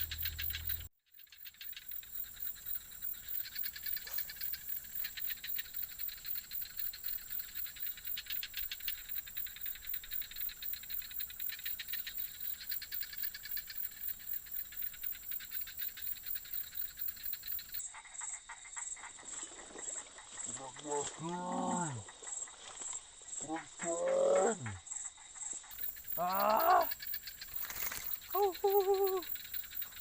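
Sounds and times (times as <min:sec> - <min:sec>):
frogs pulsing rattle: 0:00.0 - 0:30.0
high-pitched insect trill: 0:00.0 - 0:30.0.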